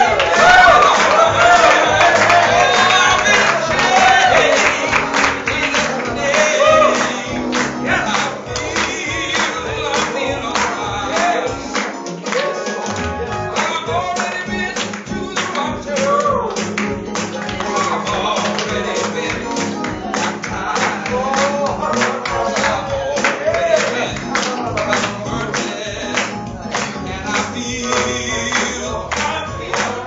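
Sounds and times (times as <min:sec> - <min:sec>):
gospel voices singing: 0:00.0 - 0:30.0
sharp percussive beat: 0:00.0 - 0:30.0.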